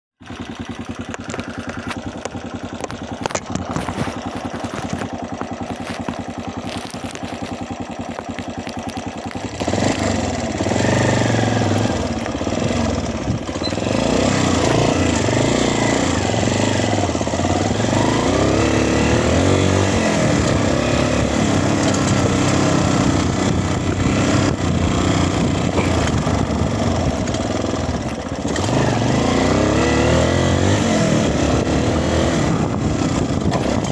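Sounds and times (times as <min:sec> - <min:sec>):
dirt bike engine revving: 0:00.2 - 0:33.9.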